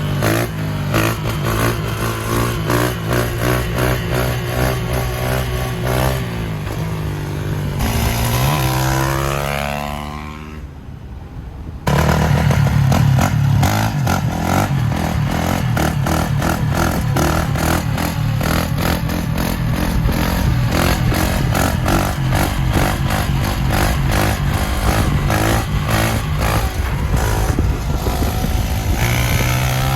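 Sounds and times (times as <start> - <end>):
motorcycle engine revving: 0.0 - 10.7, 11.9 - 29.9.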